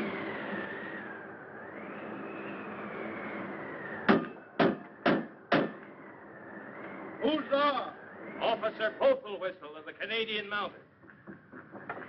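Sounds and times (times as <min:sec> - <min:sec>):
wind with wavering whistle: 0:00.0 - 0:09.9.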